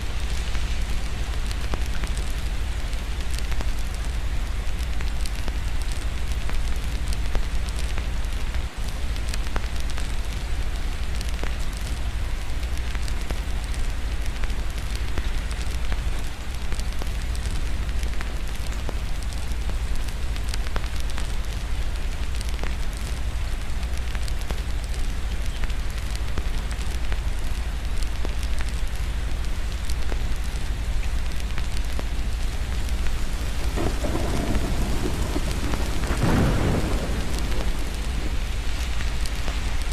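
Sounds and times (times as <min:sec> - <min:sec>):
rain hissing: 0:00.0 - 0:39.9
wood fire crackling: 0:00.0 - 0:39.9.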